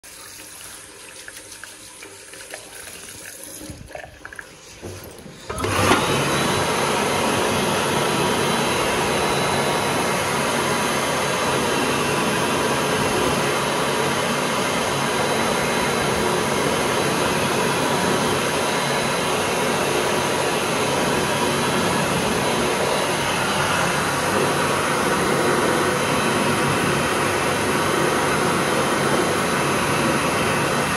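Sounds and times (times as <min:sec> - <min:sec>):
hand dryer blowing air: 0:00.0 - 0:30.9.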